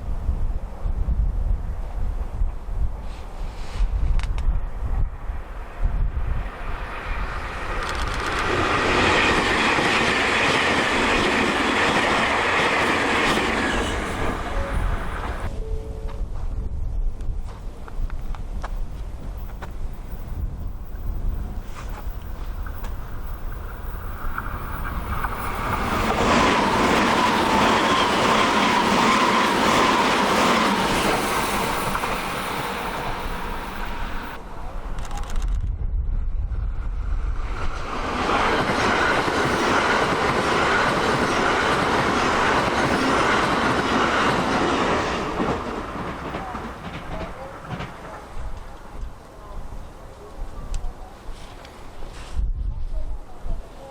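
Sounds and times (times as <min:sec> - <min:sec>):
wind buffeting microphone: 0:00.0 - 0:53.8
electric train rushing past: 0:00.6 - 0:16.9, 0:19.2 - 0:49.3.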